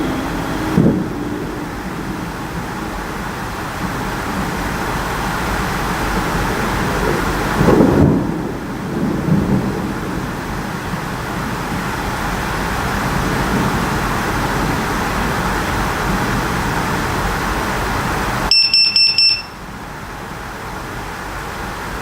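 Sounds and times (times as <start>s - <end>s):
thunder rumbling: 0.0s - 18.4s
heavy rain hissing: 0.0s - 18.5s, 19.6s - 22.0s.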